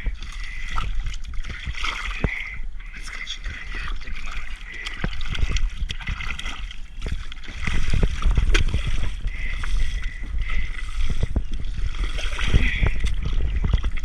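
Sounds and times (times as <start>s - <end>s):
water and mud splashing: 0.0s - 14.0s.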